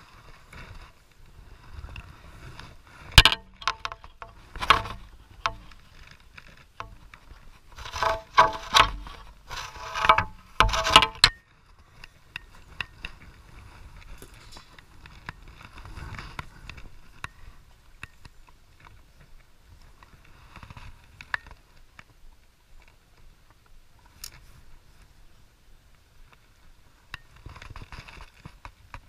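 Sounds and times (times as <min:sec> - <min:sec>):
rough rustling of branch: 0:00.0 - 0:29.0.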